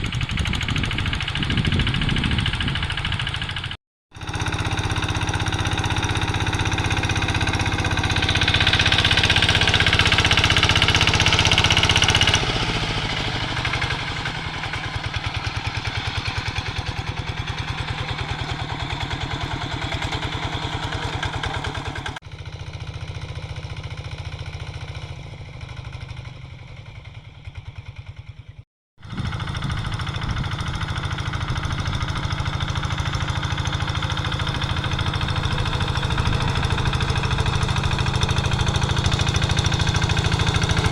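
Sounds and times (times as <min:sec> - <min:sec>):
diesel engine running under load: 0:00.0 - 0:24.9, 0:29.0 - 0:40.9.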